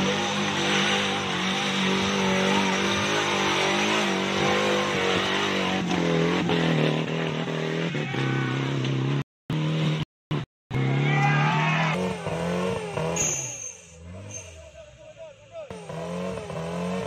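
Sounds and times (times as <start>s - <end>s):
buggy engine running hard: 0.0s - 17.0s.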